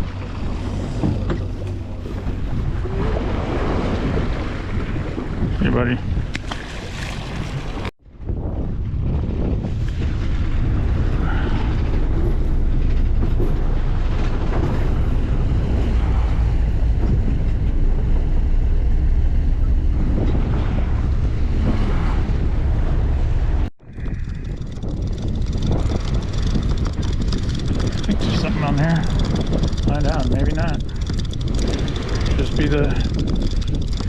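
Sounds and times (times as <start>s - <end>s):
boat engine rumbling: 0.0s - 34.0s
wind buffeting microphone: 0.0s - 34.0s.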